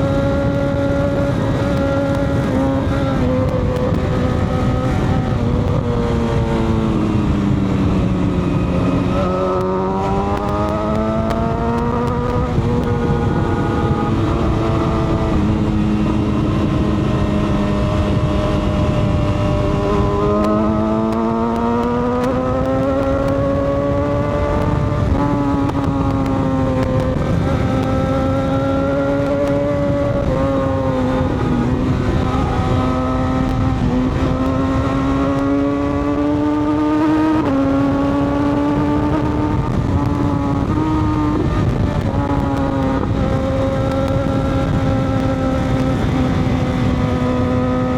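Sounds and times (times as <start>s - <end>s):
motorcycle engine shifting gears: 0.0s - 47.9s.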